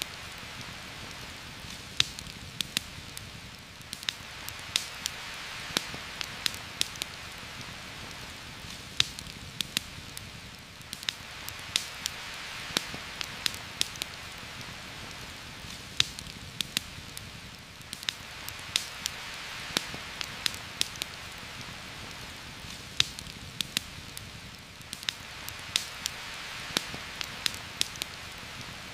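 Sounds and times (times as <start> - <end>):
campfire crackling: 0.0 - 28.9
steady rain hiss: 0.0 - 28.9.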